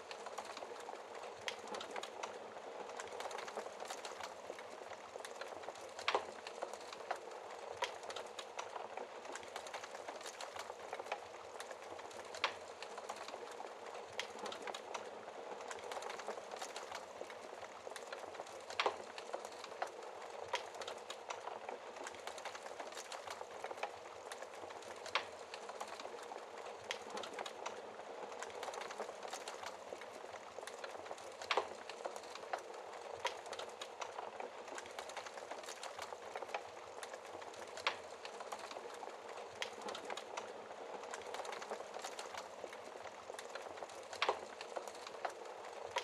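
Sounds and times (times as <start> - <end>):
wood fire crackling: 0.0 - 46.0
fire popping: 0.1 - 46.0.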